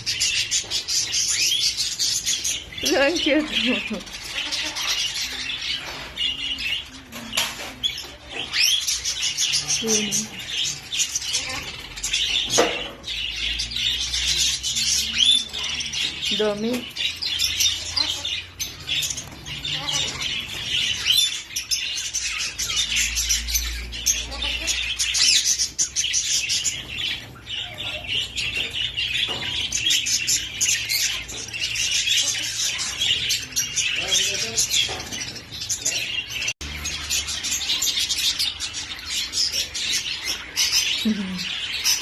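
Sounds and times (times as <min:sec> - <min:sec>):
birds chirping and chattering: 0:00.0 - 0:42.0.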